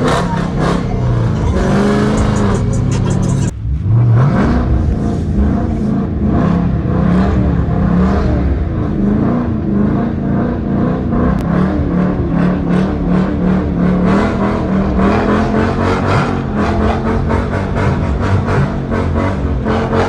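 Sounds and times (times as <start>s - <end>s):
car engine revving loudly: 0.0s - 20.0s.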